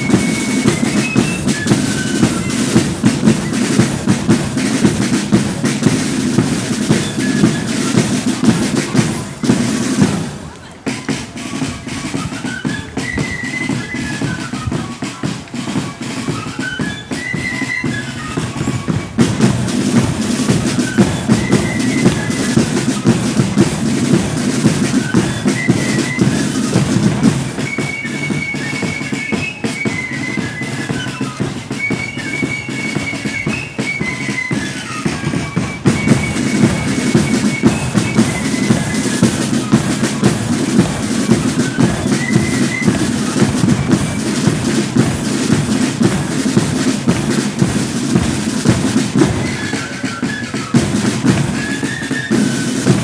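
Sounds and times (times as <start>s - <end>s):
flute melody: 0.0s - 53.0s
snare drums: 0.0s - 53.0s.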